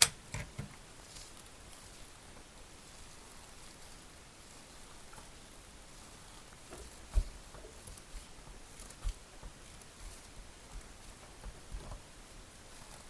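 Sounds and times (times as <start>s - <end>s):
faint ticks and rustles: 0.0s - 13.0s.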